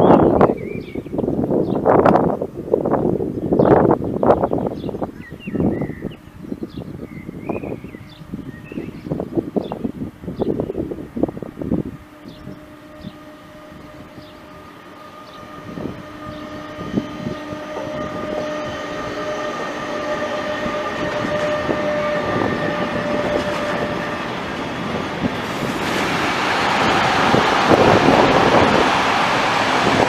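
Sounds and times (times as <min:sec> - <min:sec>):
train passing: 0:05.6 - 0:30.0.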